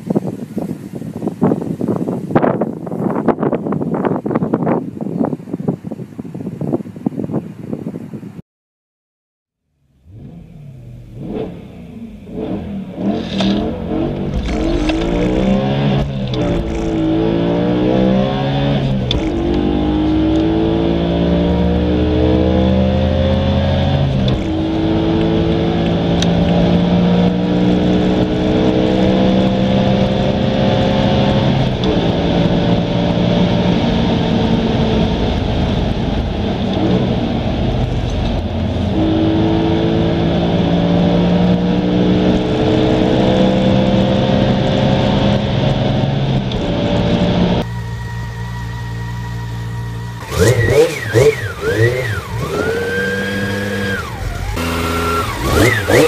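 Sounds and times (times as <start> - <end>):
car engine accelerating: 9.8 - 56.0.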